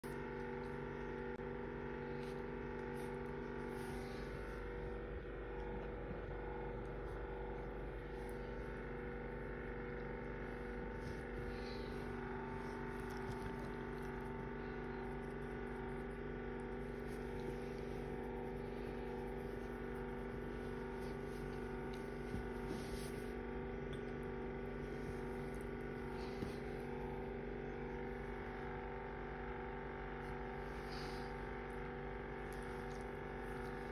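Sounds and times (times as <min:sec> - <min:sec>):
space heater electrical hum: 0:00.0 - 0:33.9.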